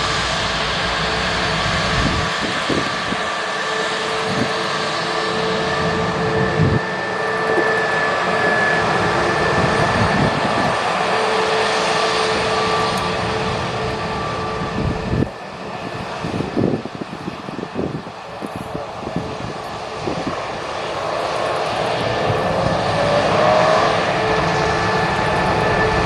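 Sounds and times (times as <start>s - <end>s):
jet engines roaring with whine: 0.0s - 26.0s.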